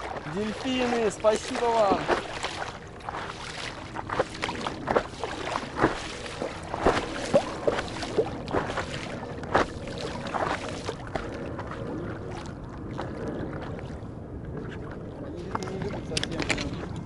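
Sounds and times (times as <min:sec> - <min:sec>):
water splashing against paddleboard: 0:00.0 - 0:17.0.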